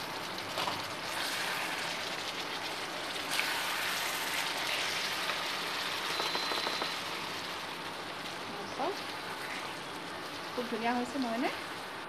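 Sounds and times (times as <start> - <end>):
curry sizzling and bubbling: 0.0 - 12.0.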